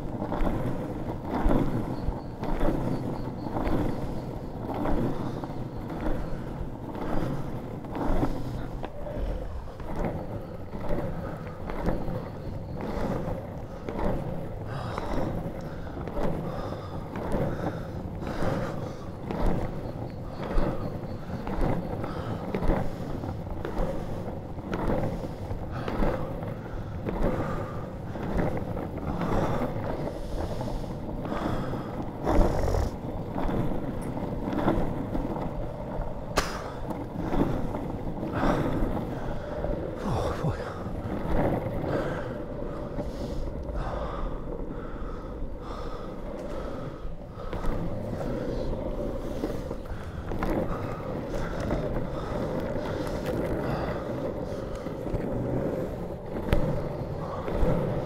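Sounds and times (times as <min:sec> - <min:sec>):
longboard wheels rolling on tarmac: 0:00.0 - 0:58.0
wheels knocking on road bumps: 0:00.0 - 0:58.0.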